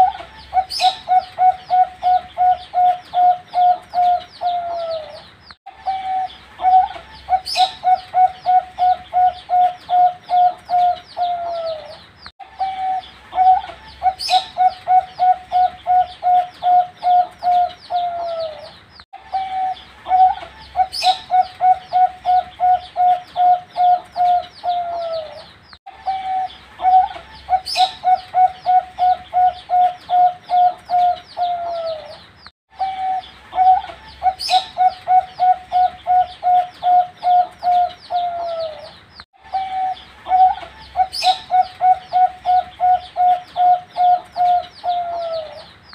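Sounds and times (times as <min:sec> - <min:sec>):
dove cooing: 0:00.0 - 0:45.7.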